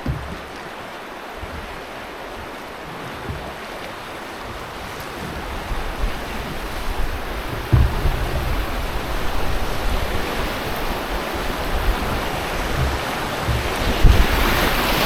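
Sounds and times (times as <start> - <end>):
river water rushing: 0.0 - 15.0
wind buffeting microphone: 1.2 - 15.0.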